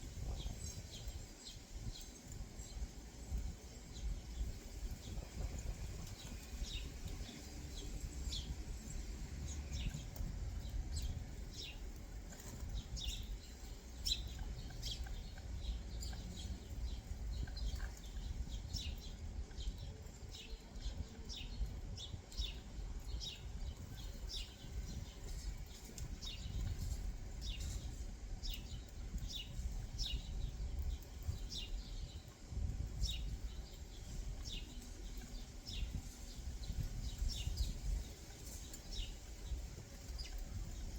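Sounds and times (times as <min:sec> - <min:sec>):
steady low rumble: 0:00.0 - 0:38.1
songbirds chirping: 0:00.0 - 0:40.9.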